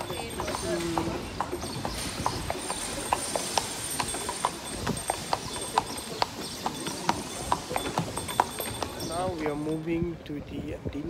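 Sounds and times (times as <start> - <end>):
horse hooves clopping on stone: 0.0 - 10.2.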